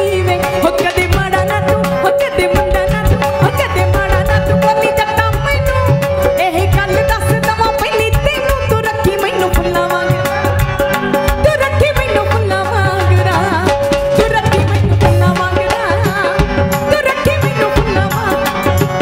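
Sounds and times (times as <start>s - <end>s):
women singing into microphones: 0.0s - 19.0s.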